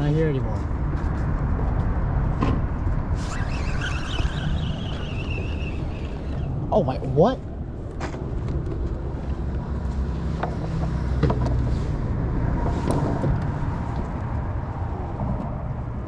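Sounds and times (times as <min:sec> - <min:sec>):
engine low rumble: 0:00.0 - 0:16.0.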